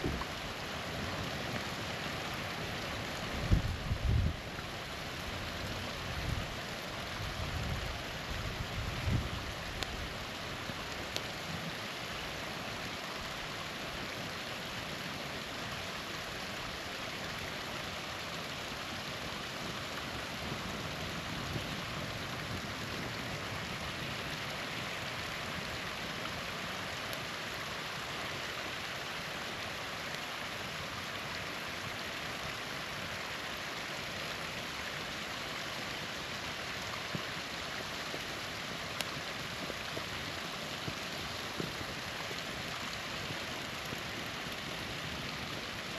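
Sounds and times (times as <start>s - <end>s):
campfire crackling: 0.0s - 45.9s
small waterfall rushing: 0.0s - 45.9s.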